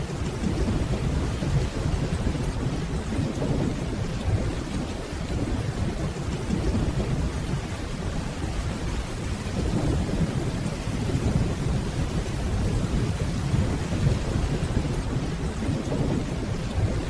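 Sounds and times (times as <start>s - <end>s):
distant thunder rumble: 0.0s - 17.0s
steady rainfall: 0.0s - 17.0s.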